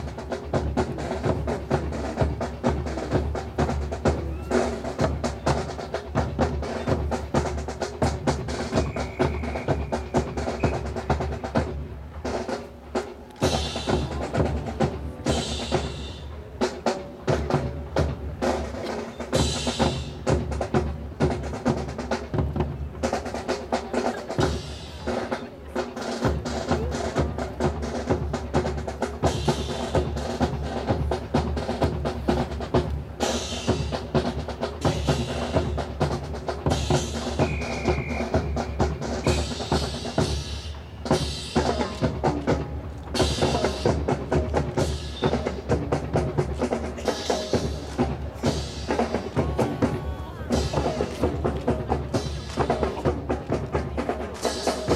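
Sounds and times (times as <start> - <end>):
marching drums cadence: 0.0 - 54.9.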